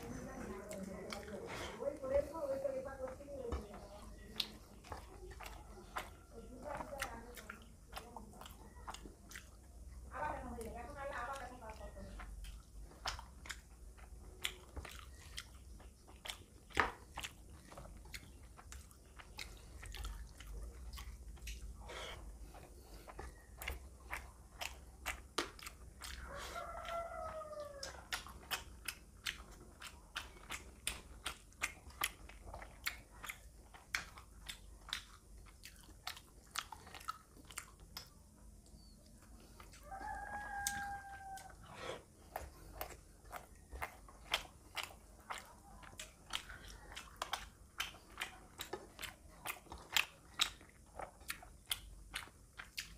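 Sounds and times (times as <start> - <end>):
wet chewing with lip smacks: 0.0 - 52.9.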